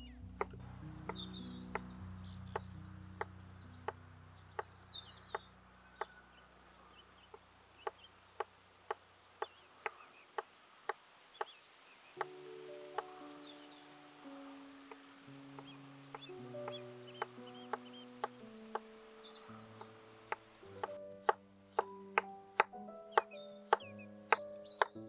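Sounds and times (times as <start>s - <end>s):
soft background music: 0.0s - 8.5s, 12.2s - 25.0s
high bird chirps: 0.0s - 21.9s, 22.5s - 25.0s.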